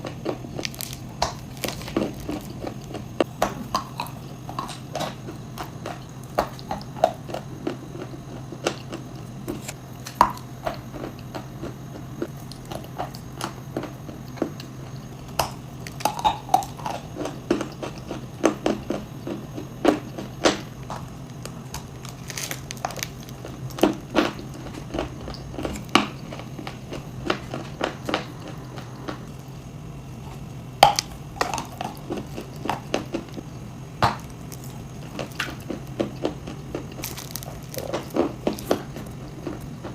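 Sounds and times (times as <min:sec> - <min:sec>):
crunching and chewing chalk: 0:00.0 - 0:39.9.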